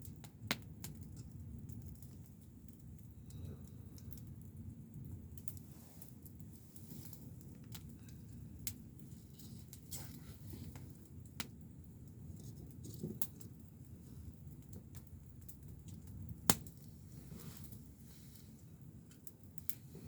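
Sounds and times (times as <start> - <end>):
fire pops: 0.0 - 20.0
low steady rumble: 0.0 - 20.0
wood fire crackling: 0.0 - 20.0.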